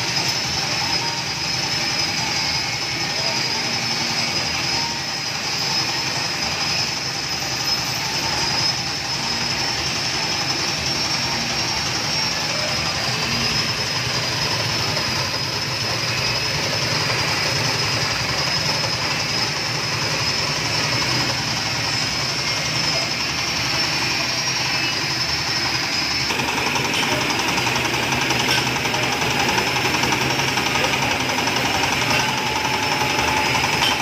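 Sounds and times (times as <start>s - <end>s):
grating machine whining: 0.0s - 34.0s.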